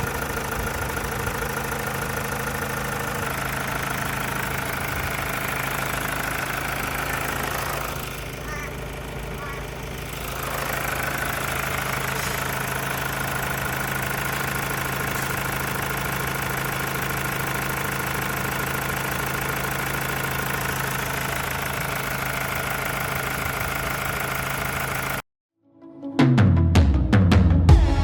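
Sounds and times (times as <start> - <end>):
car engine idling: 0.0 - 25.2.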